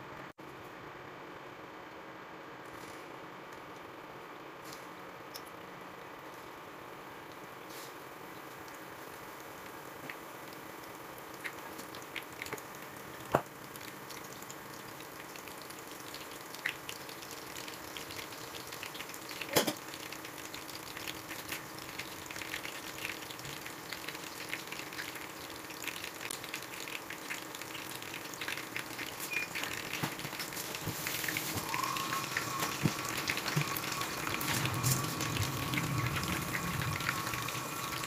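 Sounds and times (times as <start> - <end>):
fish frying in hot oil: 6.1 - 38.0.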